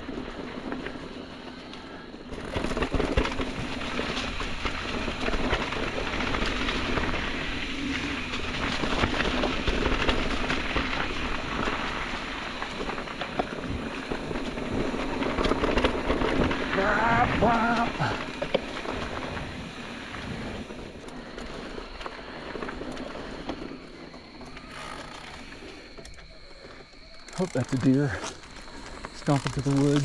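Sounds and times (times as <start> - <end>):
bike rattling: 0.0 - 30.0
tyres crunching through dry leaves: 2.4 - 30.0.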